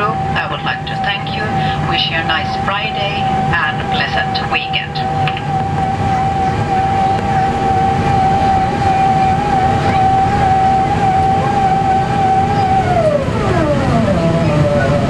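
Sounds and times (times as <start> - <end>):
jet engines whining and rumbling: 0.0 - 15.0.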